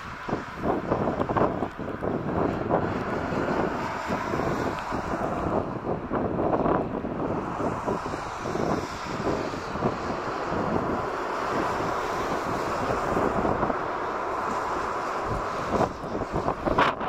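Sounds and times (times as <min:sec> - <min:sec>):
jet engines whining: 0:00.0 - 0:17.0
wind buffeting microphone: 0:00.0 - 0:17.0.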